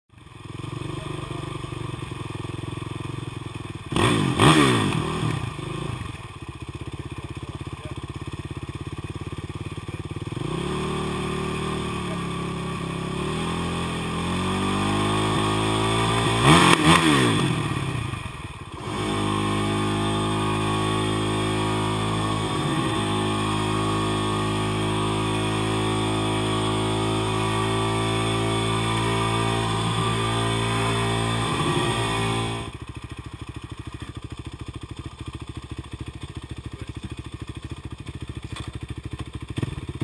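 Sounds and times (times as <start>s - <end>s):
motorcycle engine idling and revving: 0.1s - 40.0s.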